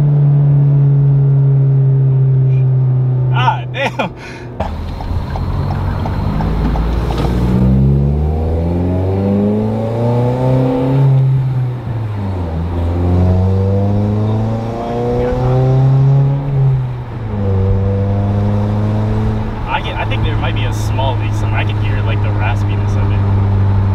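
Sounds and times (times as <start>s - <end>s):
car engine accelerating: 0.0s - 23.9s.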